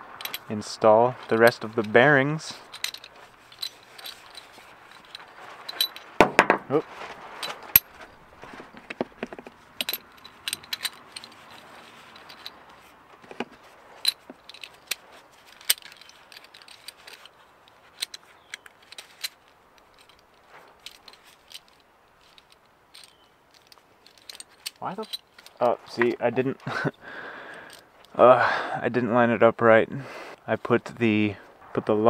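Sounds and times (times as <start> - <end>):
small metallic clicks and clinks: 0.0 - 0.6, 1.2 - 6.2, 7.4 - 28.2.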